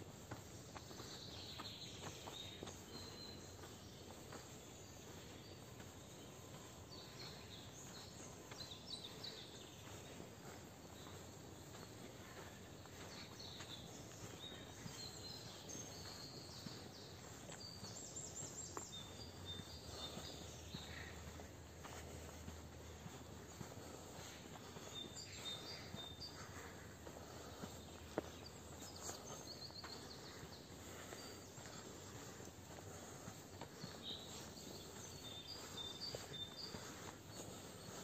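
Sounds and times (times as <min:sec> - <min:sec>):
soft footsteps: 0:00.0 - 0:38.0
songbirds chirping: 0:00.0 - 0:38.0
steady outdoor hiss: 0:00.0 - 0:38.0.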